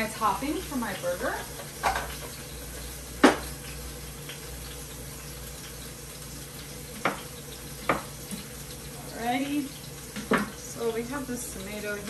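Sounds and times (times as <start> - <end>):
bacon sizzling in a pan: 0.0 - 12.0.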